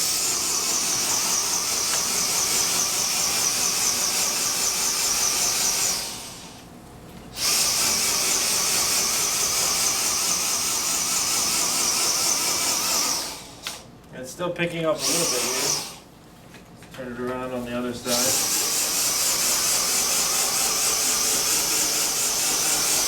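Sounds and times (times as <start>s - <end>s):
stick vacuum whining: 0.0s - 6.7s, 7.4s - 13.9s, 15.0s - 16.0s, 18.0s - 23.0s.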